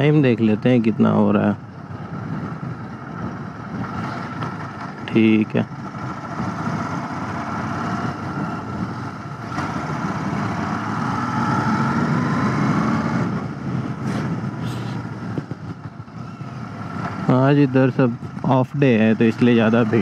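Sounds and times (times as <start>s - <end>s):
motorcycle engine riding: 0.0s - 20.0s.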